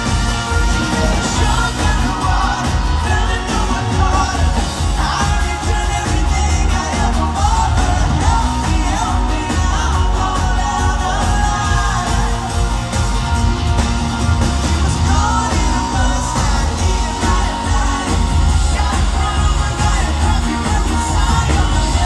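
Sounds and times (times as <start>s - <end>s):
male singer: 0.0s - 13.2s, 14.6s - 22.0s
live pop-rock band playing: 0.0s - 22.0s.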